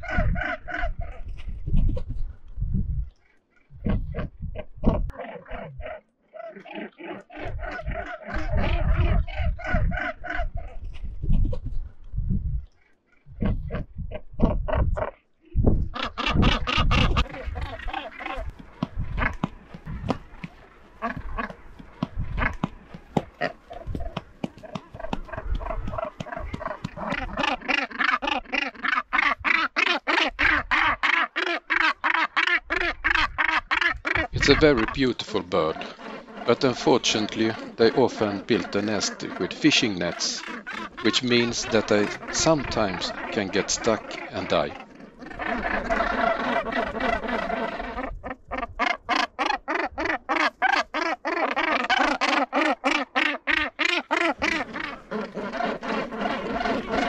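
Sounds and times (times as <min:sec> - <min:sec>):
gannets harsh grating calls: 0:05.1 - 0:10.7, 0:16.0 - 0:21.6, 0:22.2 - 0:57.0.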